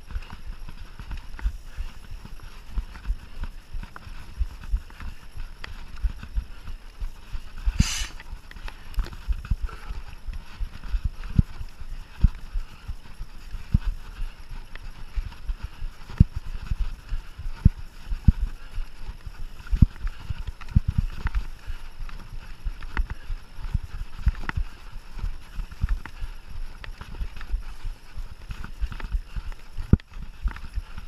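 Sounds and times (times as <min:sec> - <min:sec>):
tyre and wind hiss: 0:00.0 - 0:31.0.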